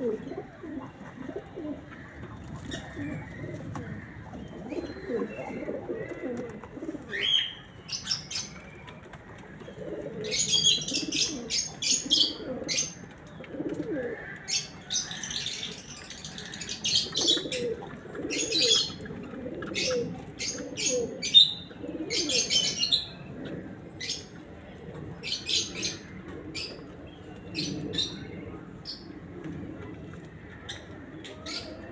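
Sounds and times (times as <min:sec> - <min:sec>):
pigeons cooing: 0:00.0 - 0:31.9.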